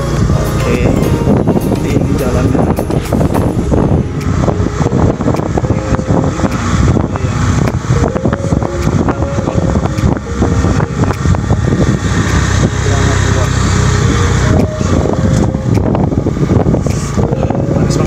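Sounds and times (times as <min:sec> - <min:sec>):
motorcycle engine running: 0:00.0 - 0:18.0
wind buffeting on microphone: 0:00.0 - 0:18.0.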